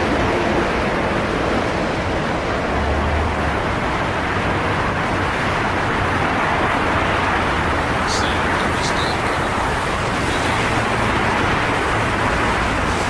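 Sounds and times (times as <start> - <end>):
highway traffic: 0.0 - 13.0.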